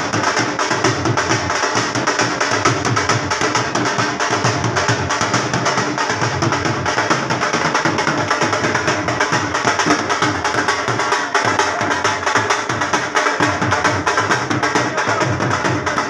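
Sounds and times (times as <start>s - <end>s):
dhol drum playing: 0.0s - 16.0s.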